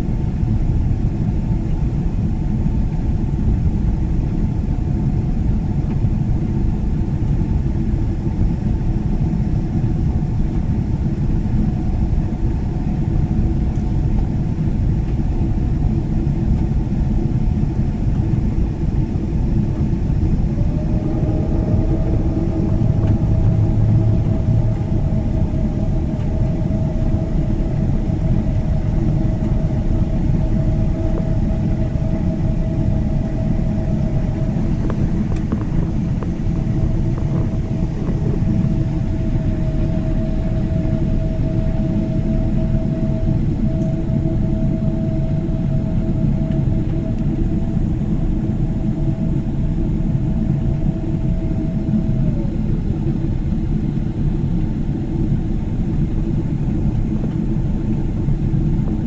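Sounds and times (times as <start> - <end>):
jet engines rumbling: 0.0 - 59.0
steady hum: 0.0 - 59.0.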